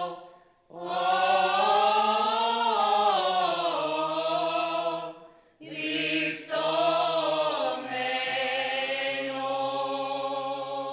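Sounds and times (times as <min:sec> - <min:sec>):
held vocal drone: 0:00.0 - 0:10.9
voices chanting a melody: 0:00.0 - 0:10.9.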